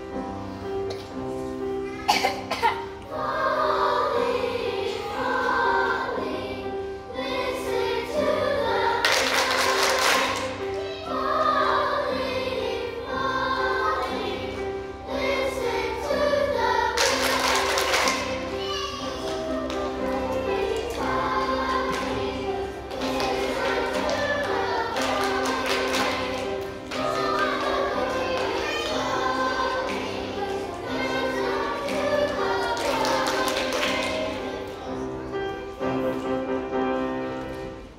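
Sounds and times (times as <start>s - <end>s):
children's choir singing: 0.0s - 37.9s
piano accompaniment: 0.0s - 37.9s.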